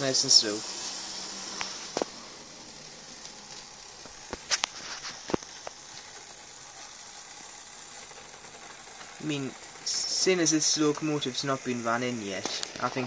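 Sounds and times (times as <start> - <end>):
model train running on track: 0.0 - 4.1, 5.6 - 13.0.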